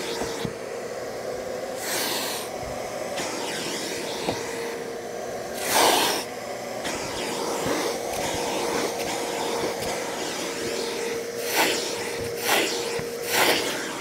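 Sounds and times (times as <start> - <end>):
shop vac whining: 0.0 - 14.0
vacuum nozzle on carpet mat: 0.0 - 14.0.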